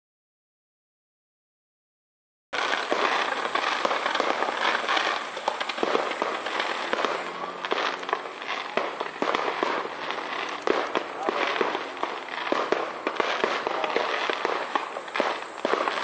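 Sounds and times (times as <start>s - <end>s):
fireworks crackling: 2.6s - 16.0s.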